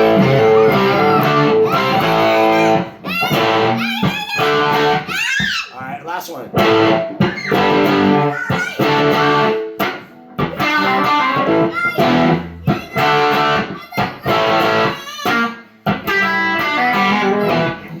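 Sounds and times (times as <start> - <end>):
distorted electric guitar: 0.0 - 5.1, 6.5 - 18.0.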